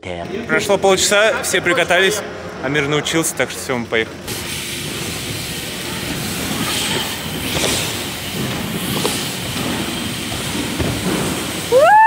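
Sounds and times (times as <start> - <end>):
bike tyres rolling on plywood ramps: 0.3 - 12.0.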